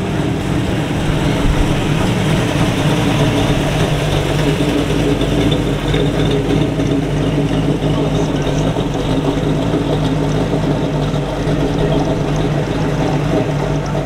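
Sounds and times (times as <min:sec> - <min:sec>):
car engine rolling past: 0:00.0 - 0:14.0.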